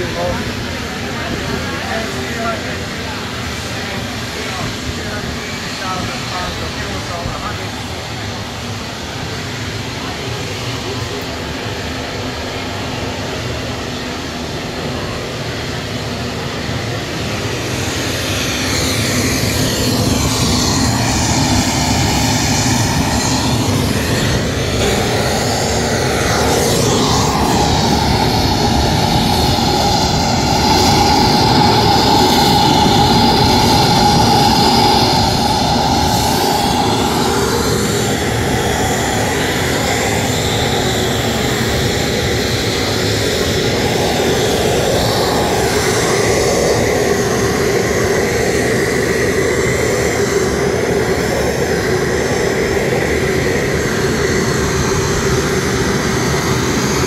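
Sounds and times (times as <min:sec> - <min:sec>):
jet aircraft engine roar: 0:00.0 - 0:57.0.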